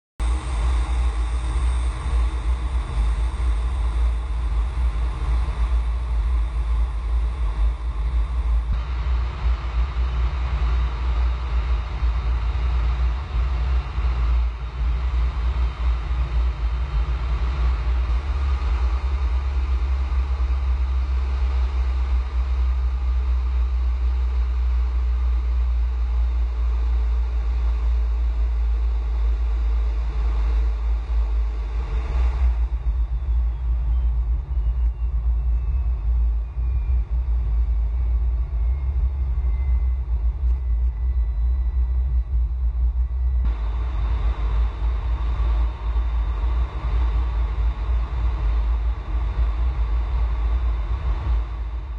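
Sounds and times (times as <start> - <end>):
jet engine rumble and rush: 0.2 - 51.9.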